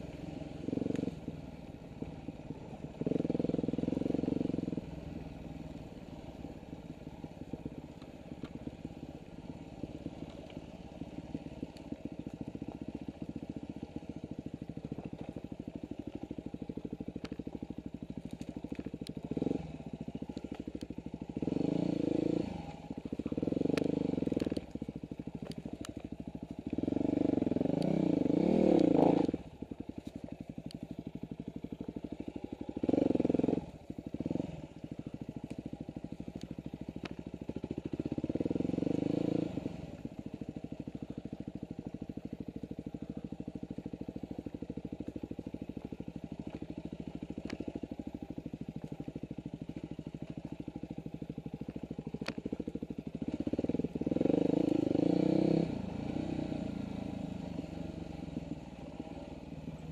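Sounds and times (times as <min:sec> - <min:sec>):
dirt bike engine: 0:00.0 - 0:59.9.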